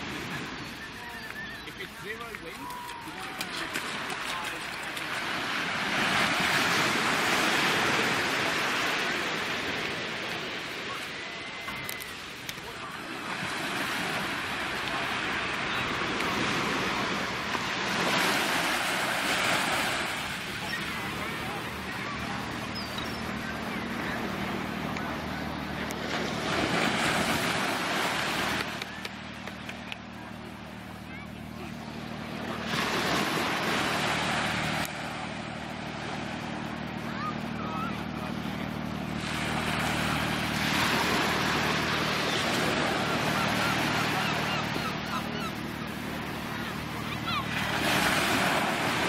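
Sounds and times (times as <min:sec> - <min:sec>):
small waves washing over sand: 0:00.0 - 0:49.0.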